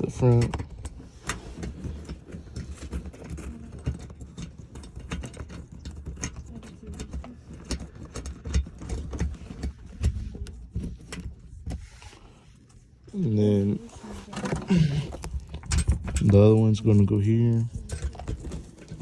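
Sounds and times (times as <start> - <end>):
low rumble of handling noise: 0.0 - 19.0
small clicks and knocks: 0.2 - 11.8, 14.2 - 19.0.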